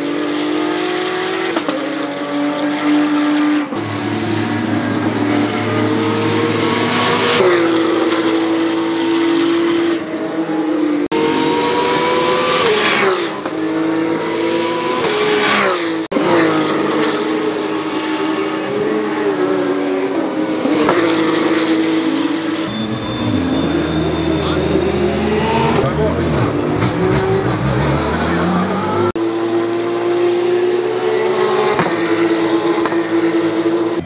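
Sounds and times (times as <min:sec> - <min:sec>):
race car engines at high revs: 0:00.0 - 0:34.0.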